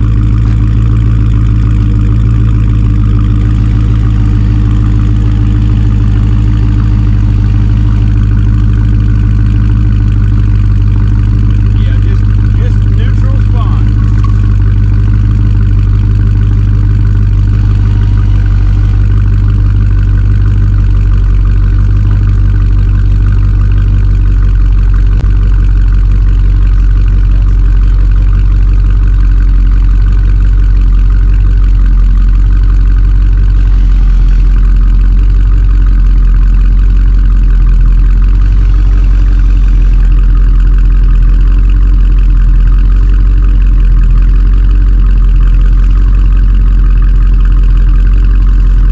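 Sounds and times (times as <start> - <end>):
vehicle engine idling: 0.0 - 48.9.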